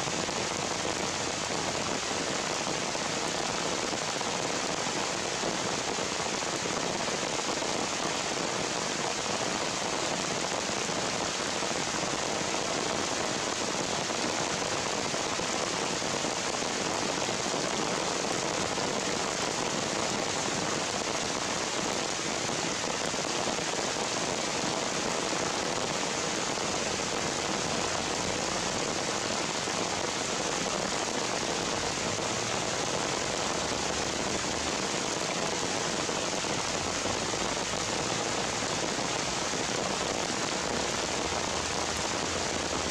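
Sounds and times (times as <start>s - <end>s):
rain falling on leaves: 0.0s - 42.9s.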